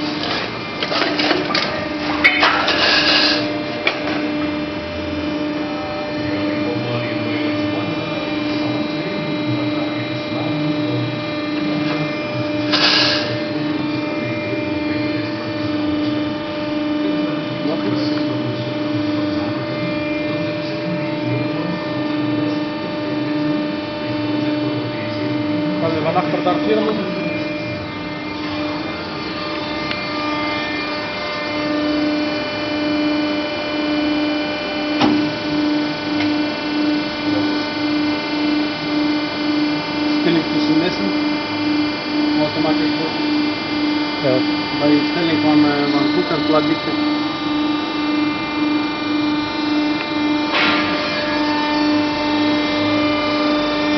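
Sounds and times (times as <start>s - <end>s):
hydraulic pump humming: 0.0s - 53.9s.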